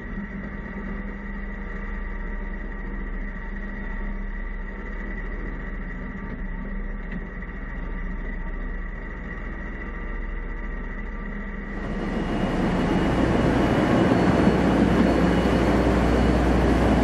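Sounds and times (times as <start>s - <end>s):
constant high whine: 0.0s - 17.0s
engine drone: 0.0s - 17.0s.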